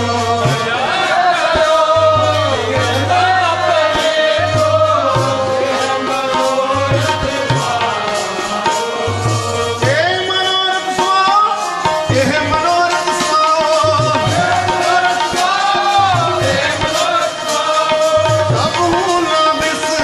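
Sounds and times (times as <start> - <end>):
harmonium melody: 0.0 - 20.0
people singing: 0.0 - 20.0.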